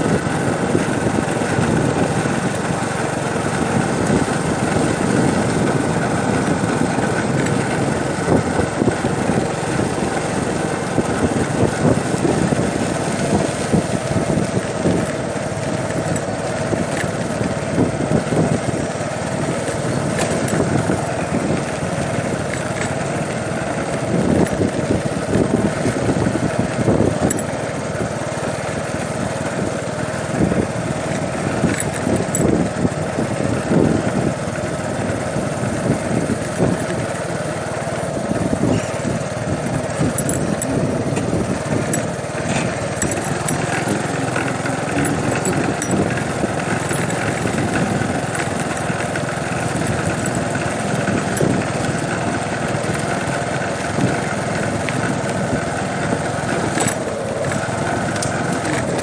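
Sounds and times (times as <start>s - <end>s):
low rumbling gusts: 0.0s - 27.4s, 37.8s - 59.0s
small engine running: 0.0s - 59.0s.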